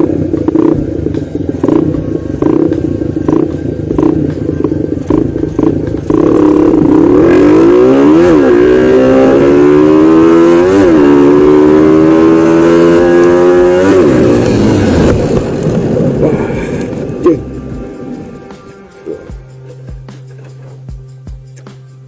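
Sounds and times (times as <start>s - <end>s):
motorcycle engine accelerating: 0.0s - 21.7s.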